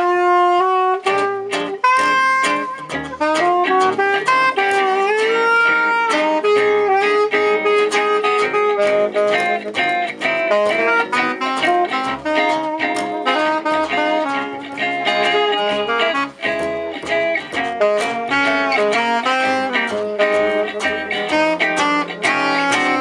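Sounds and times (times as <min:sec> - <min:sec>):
gypsy jazz band playing: 0:00.0 - 0:23.0.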